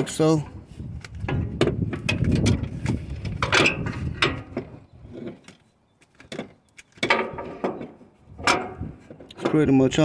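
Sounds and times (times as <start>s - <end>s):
metal clicking and scraping: 0.9s - 9.7s.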